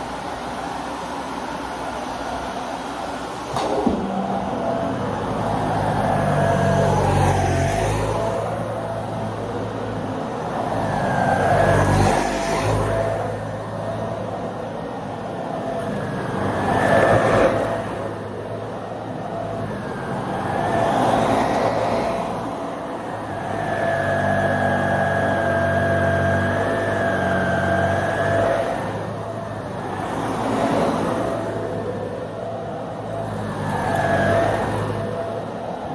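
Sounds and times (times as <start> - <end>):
vacuum cleaner motor whining: 3.5 - 14.6, 15.2 - 35.9.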